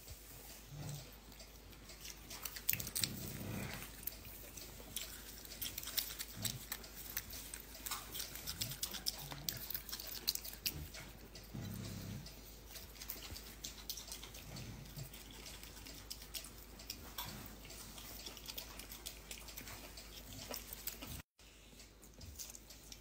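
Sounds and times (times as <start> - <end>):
monkey chewing crunches: 0.7 - 21.3.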